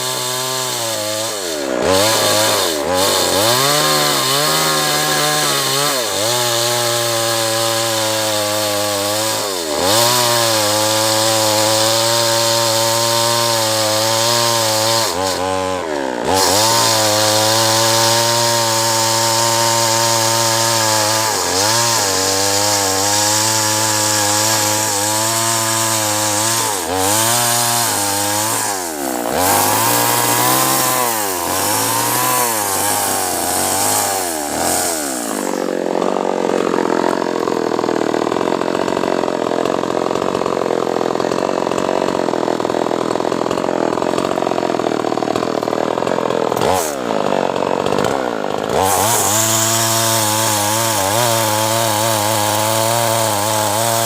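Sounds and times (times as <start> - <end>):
chainsaw cutting timber: 0.0 - 54.0.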